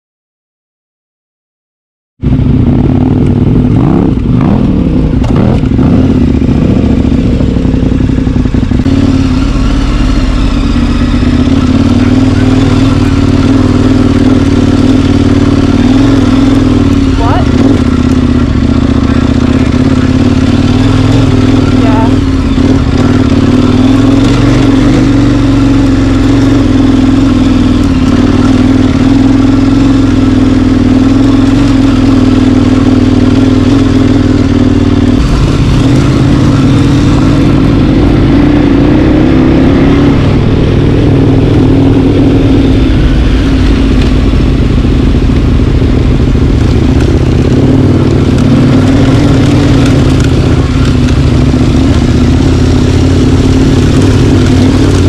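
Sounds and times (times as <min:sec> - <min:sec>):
vehicle engine running under load: 0:02.2 - 0:55.0.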